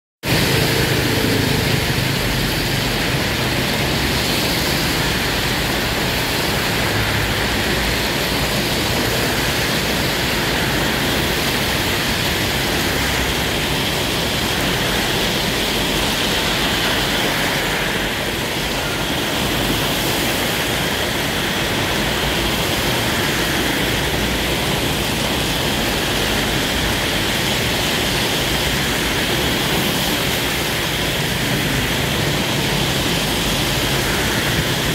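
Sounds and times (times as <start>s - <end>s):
cars driving through water: 0.2s - 34.9s
heavy rain on road: 0.2s - 34.9s.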